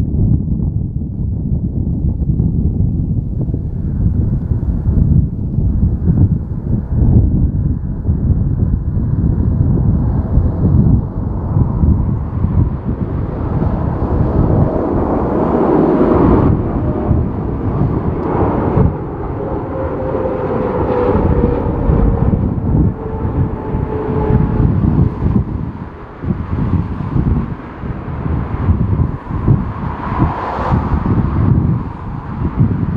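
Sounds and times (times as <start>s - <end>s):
wind buffeting microphone: 0.0s - 32.9s
jet airliner passing: 3.1s - 32.9s.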